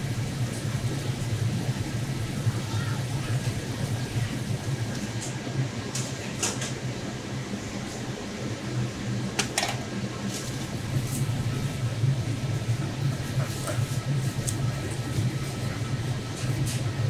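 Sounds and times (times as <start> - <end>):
ventilation fan humming: 0.0 - 17.0.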